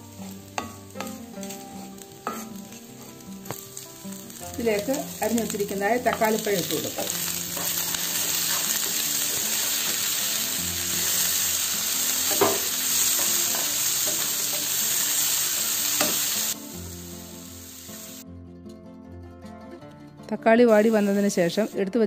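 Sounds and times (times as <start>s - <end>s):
vegetables sizzling in a pan: 0.0s - 18.2s, 20.7s - 21.9s.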